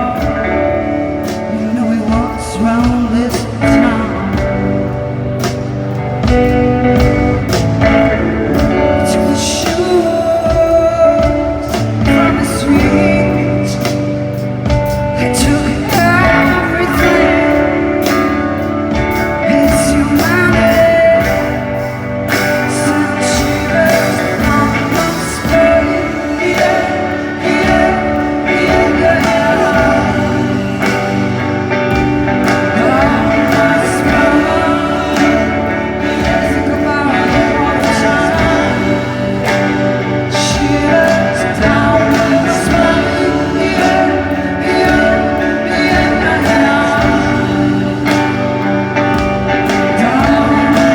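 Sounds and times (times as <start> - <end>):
guitar: 0.0 - 50.9.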